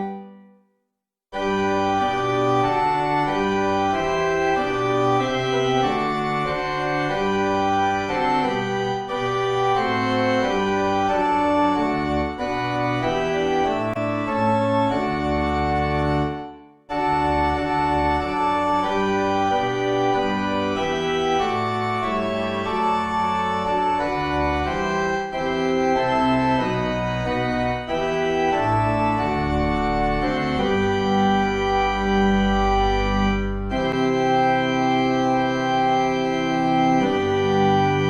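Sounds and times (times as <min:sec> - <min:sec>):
organ playing sustained chords: 0:00.0 - 0:00.4, 0:01.4 - 0:38.0.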